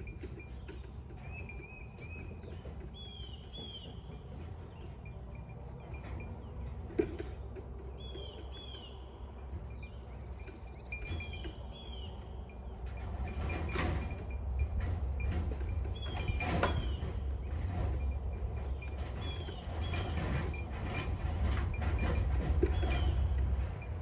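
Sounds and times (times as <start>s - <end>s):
low steady rumble: 0.0s - 24.0s
metallic clinks: 0.0s - 24.0s.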